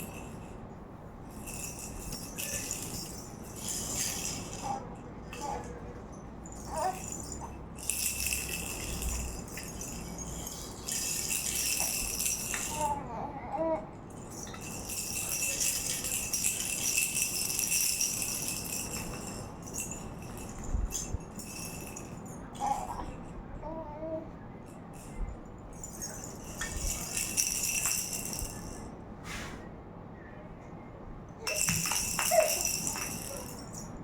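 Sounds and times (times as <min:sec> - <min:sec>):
toy rattle shaking: 0:00.0 - 0:00.7, 0:01.3 - 0:13.0, 0:14.1 - 0:23.4, 0:24.7 - 0:28.9, 0:31.4 - 0:34.0.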